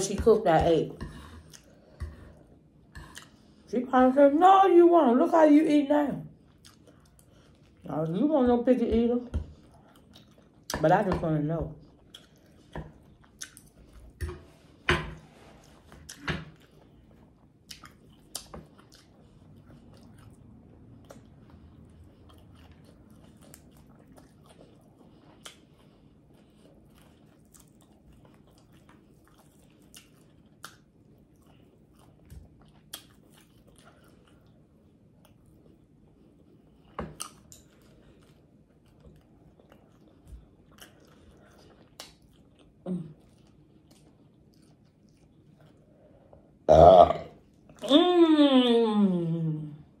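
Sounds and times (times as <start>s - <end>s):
person chewing food: 0.9s - 3.7s, 6.3s - 8.2s, 9.3s - 10.8s, 11.7s - 47.9s.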